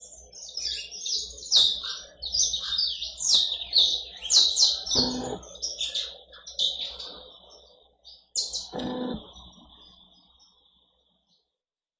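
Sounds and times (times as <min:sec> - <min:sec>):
bird chirping and trilling: 0:00.0 - 0:10.6.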